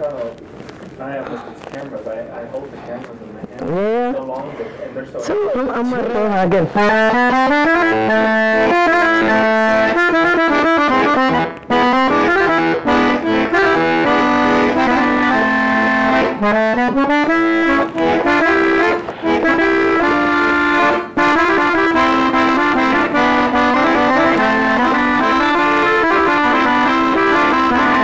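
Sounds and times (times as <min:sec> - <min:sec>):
button accordion melody: 0:05.4 - 0:28.0.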